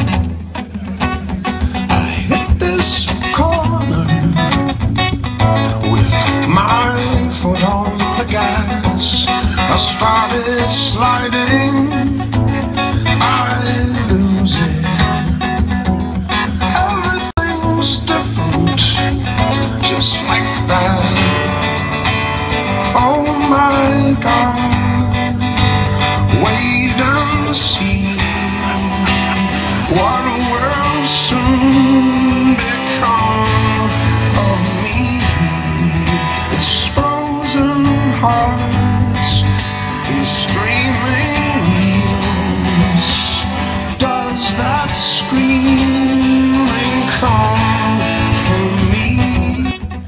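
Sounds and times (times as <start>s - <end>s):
acoustic guitar strumming: 0.0s - 50.0s
person vocalizing wordless notes: 1.5s - 49.8s.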